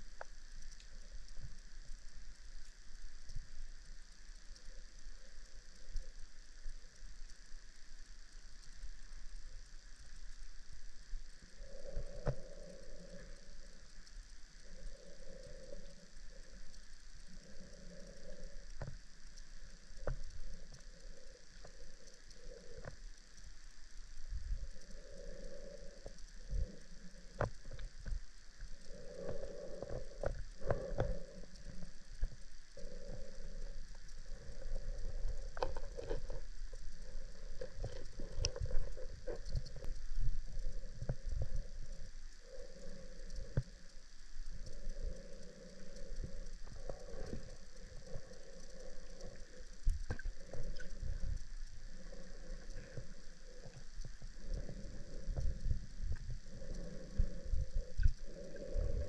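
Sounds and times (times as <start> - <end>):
faint high hum: 0.0 - 59.0.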